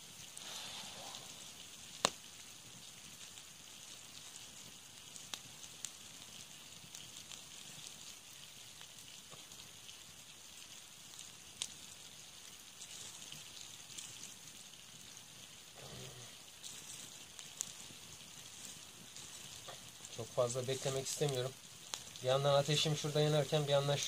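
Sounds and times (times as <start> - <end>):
campfire crackling and hissing: 0.0 - 24.0
campfire pops: 0.0 - 24.0.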